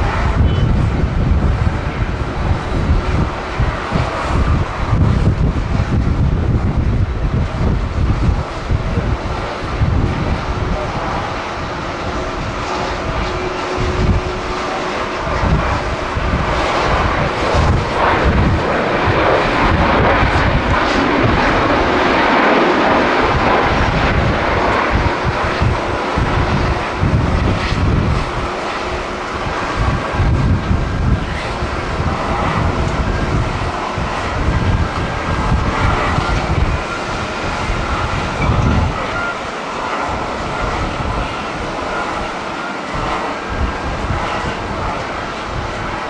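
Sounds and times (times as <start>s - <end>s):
jet engine rush: 0.0s - 46.0s
wind buffeting microphone: 0.0s - 46.0s.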